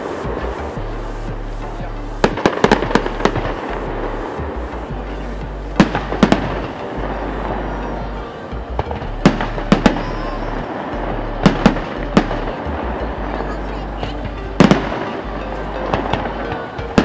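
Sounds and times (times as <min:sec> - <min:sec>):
crackling rumble of fireworks: 0:00.0 - 0:17.0
firework bangs: 0:00.0 - 0:17.0.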